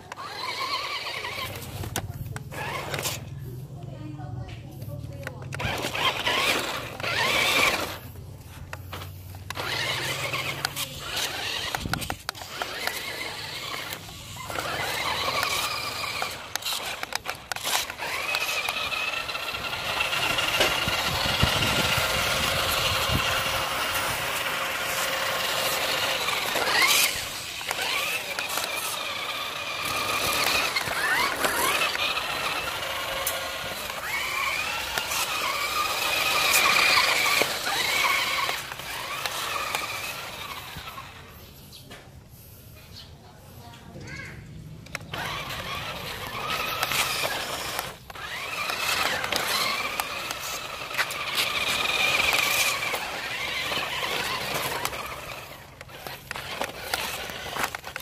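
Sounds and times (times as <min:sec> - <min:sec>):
toy car electric motor whining: 0:00.0 - 0:03.7, 0:04.8 - 0:41.6, 0:44.1 - 0:58.0.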